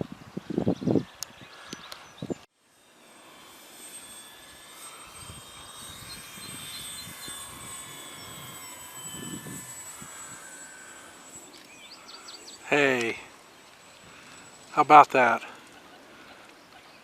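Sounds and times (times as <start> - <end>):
model plane motors whining: 0.6 - 17.0.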